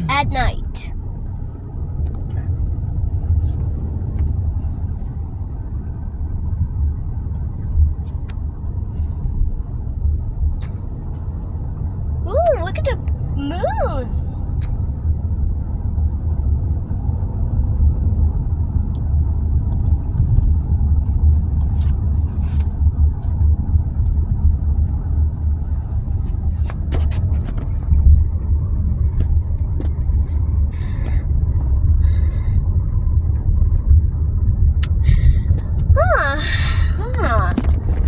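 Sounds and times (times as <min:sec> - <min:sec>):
car cabin road and engine rumble: 0:00.0 - 0:38.0.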